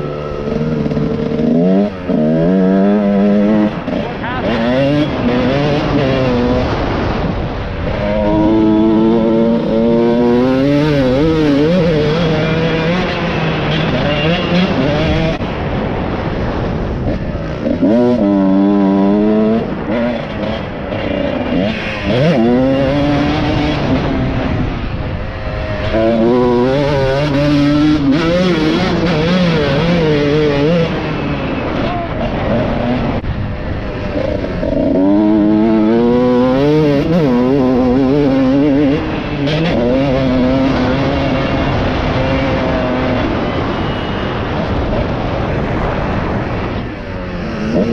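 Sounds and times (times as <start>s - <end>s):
motorcycle engine revving: 0.0s - 47.9s
wind rush on microphone: 4.8s - 47.9s.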